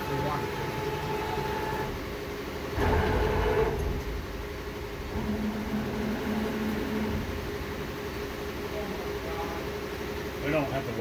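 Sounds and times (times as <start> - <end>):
machine mechanical hum: 0.0 - 11.0
steady machine tones: 0.0 - 11.0.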